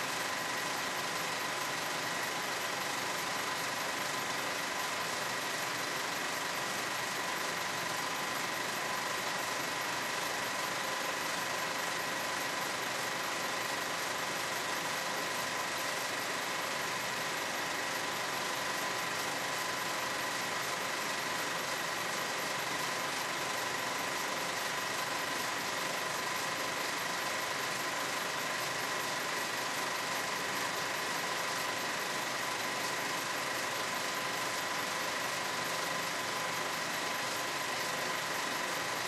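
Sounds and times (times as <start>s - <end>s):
constant high-pitched hum: 0.0s - 39.0s.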